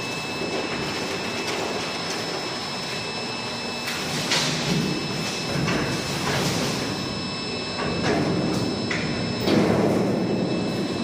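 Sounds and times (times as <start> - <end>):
faint high whine: 0.0 - 11.0
steady machine noise: 0.0 - 11.0.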